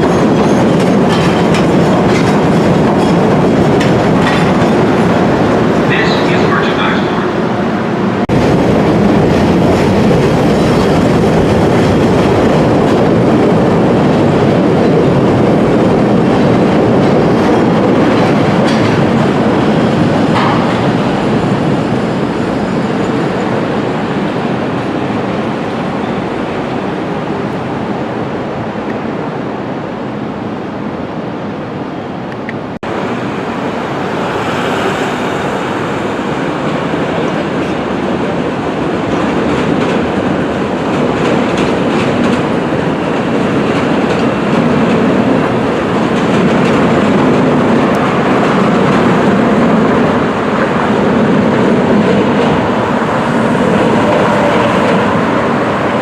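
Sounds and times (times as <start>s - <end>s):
train running on track: 0.0s - 56.0s.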